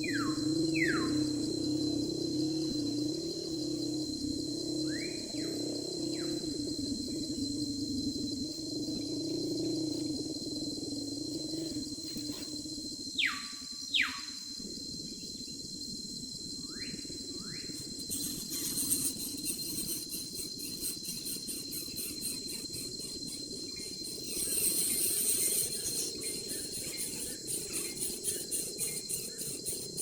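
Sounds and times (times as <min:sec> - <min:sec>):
insect chorus high-pitched whine: 0:00.0 - 0:30.0
pulsing insect chirring: 0:00.0 - 0:30.0.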